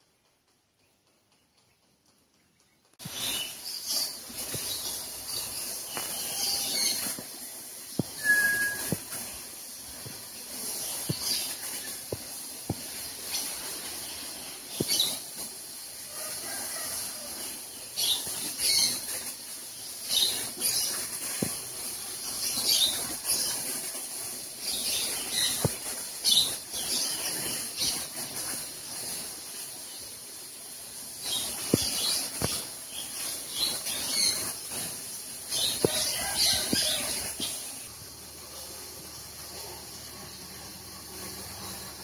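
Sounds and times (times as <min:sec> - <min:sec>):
small birds chirping: 0:00.5 - 0:15.8, 0:17.8 - 0:30.2, 0:30.9 - 0:40.5
steady hiss: 0:02.9 - 0:42.0.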